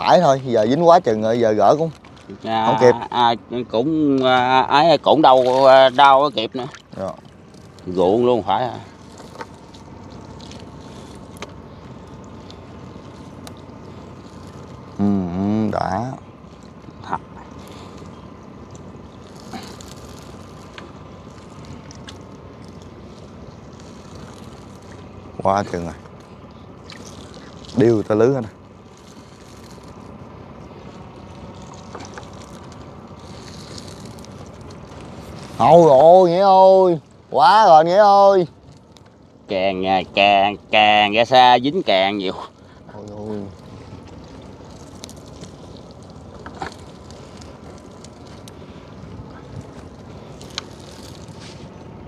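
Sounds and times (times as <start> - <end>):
small boat engine running: 0.0 - 52.0
steady low hum: 0.0 - 52.0.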